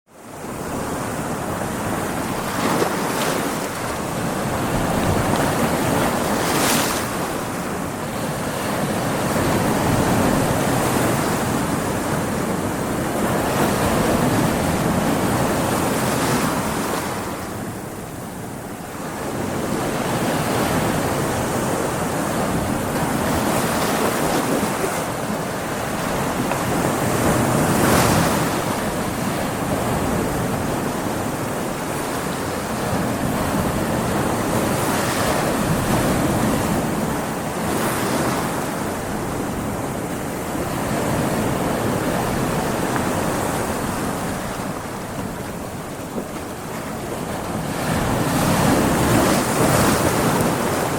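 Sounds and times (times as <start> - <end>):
waves breaking on rocks: 0.6 - 17.8, 19.1 - 50.9.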